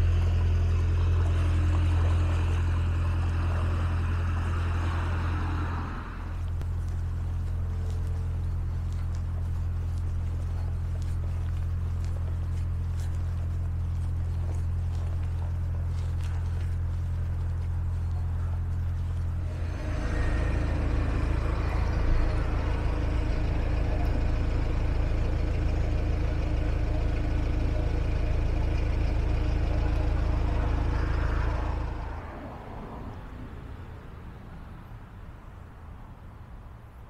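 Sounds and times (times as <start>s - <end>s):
diesel boat engine running: 0.0s - 33.4s
low hum: 0.0s - 34.2s.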